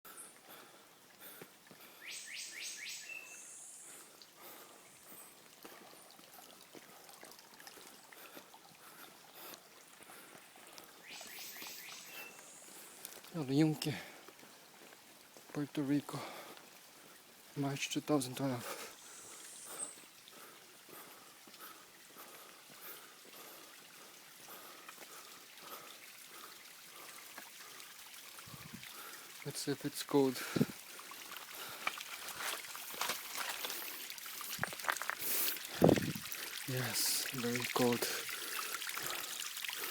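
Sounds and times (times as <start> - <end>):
water trickling and dripping: 0.1 - 39.9.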